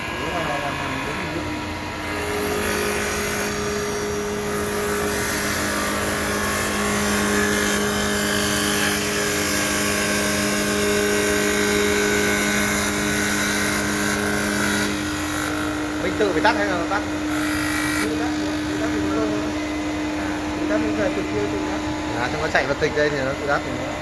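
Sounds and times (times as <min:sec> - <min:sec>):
wood lathe motor hum: 0:00.0 - 0:24.0.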